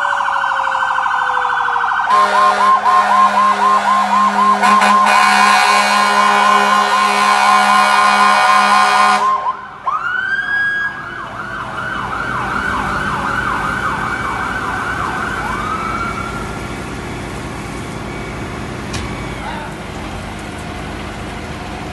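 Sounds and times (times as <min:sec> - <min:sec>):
fast-warbling siren: 0:00.0 - 0:19.7
yelping siren: 0:00.0 - 0:19.8.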